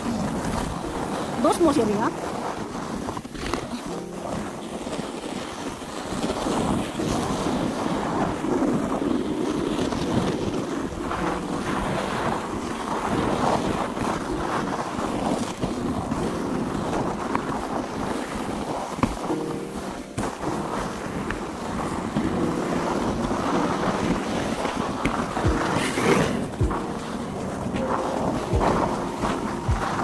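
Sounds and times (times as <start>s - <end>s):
sledge scraping on icy snow: 0.0s - 30.0s
wind buffeting microphone: 0.0s - 30.0s.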